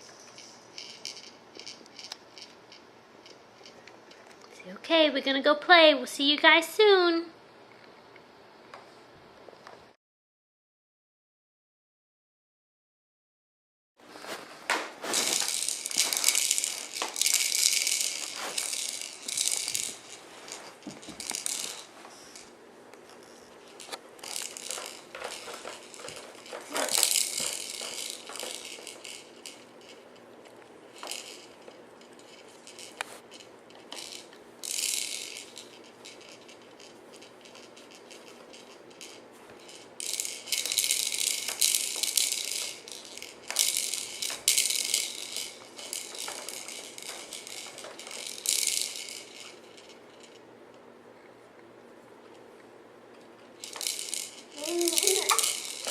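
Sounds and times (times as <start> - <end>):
plastic toys and beads rattling: 0.0 - 7.1, 14.3 - 50.4, 53.4 - 55.9.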